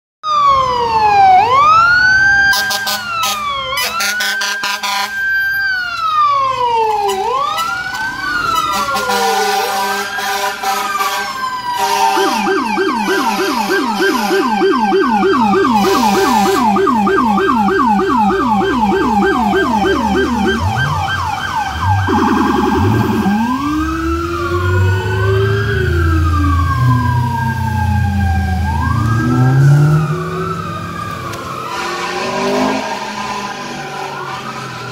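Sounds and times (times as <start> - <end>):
electronic siren yelp and wail: 0.2 - 34.9.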